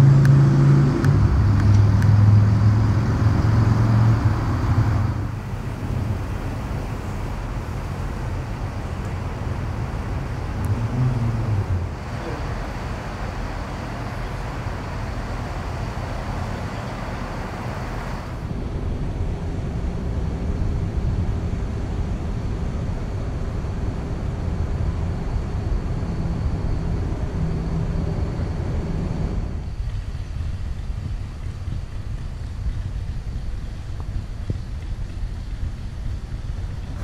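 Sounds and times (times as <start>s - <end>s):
engines and road traffic rumble: 0.0s - 37.0s
steady hum: 0.0s - 37.0s.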